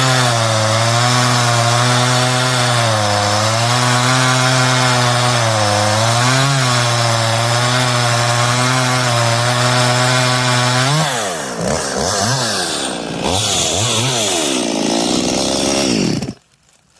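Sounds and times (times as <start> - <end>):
chainsaw cutting at high speed: 0.0 - 16.4
chainsaw revving: 0.0 - 16.4.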